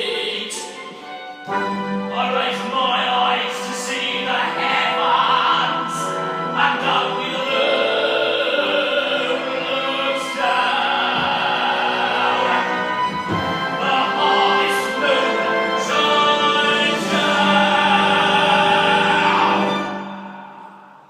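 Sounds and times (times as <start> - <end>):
orchestra playing held chords: 0.0 - 21.0.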